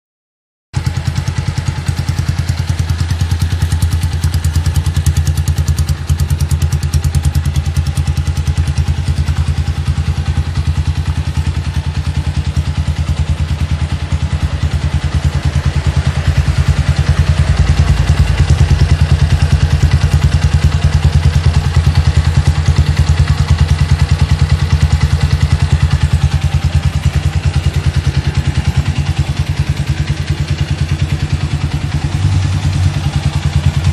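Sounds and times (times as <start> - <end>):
motorcycle engine running: 0.8 - 33.9.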